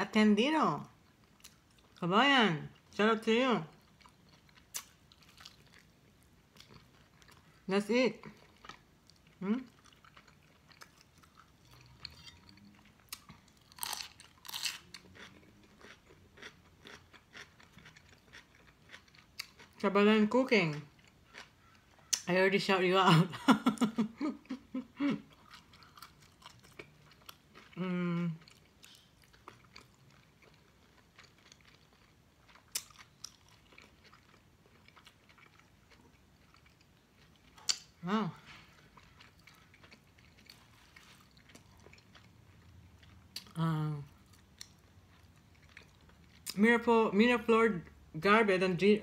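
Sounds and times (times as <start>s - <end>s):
chewing with small crunches: 0.8s - 22.3s, 24.3s - 46.6s.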